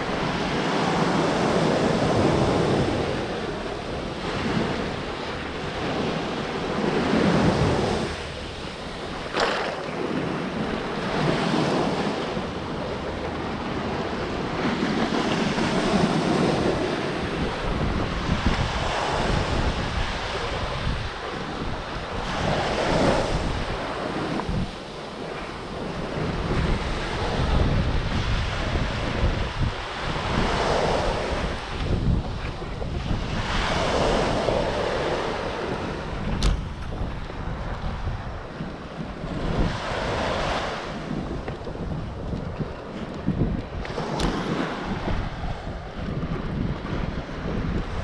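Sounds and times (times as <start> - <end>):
surf washing on sandy beach: 0.0 - 48.0
wind buffeting microphone: 0.0 - 48.0.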